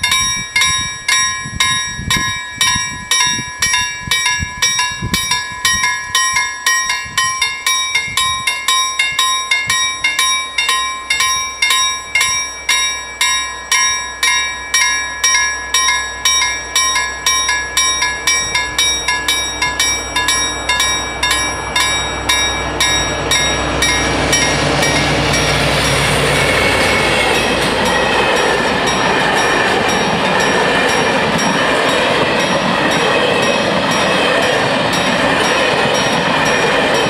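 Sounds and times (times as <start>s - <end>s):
freight train rumble: 0.0s - 37.0s
level crossing bells ringing: 0.0s - 37.0s.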